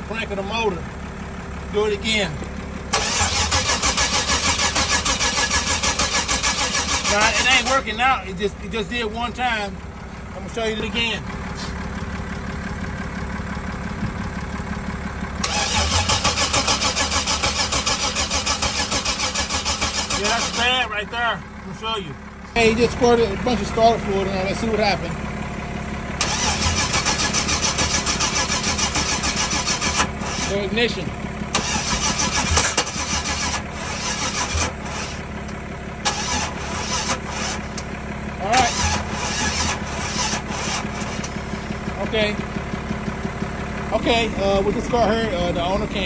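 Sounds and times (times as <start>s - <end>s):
starter motor cranking engine: 0.0s - 46.0s.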